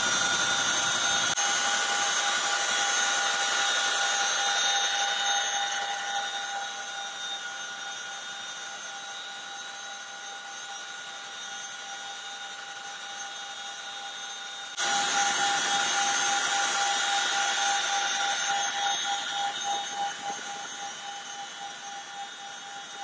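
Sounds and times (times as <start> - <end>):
aircraft turbine engines whining: 0.0 - 23.0.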